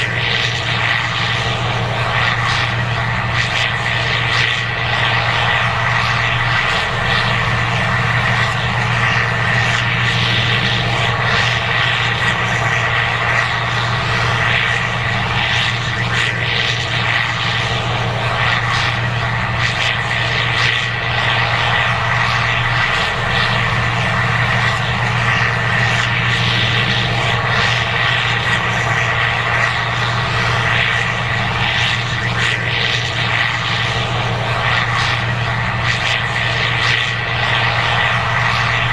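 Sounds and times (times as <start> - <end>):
combine engine drone: 0.0 - 38.9
thin steady whine: 0.0 - 38.9.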